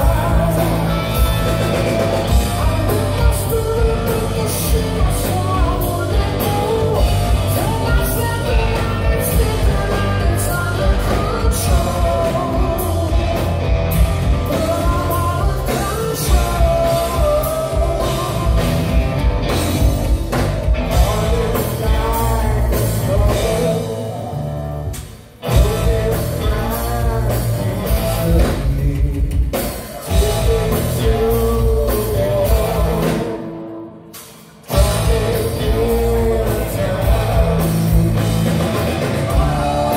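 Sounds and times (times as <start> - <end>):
bass guitar: 0.0 - 39.9
drum kit: 0.0 - 39.9
electric guitar: 0.0 - 39.9
male lead vocal: 0.0 - 39.9.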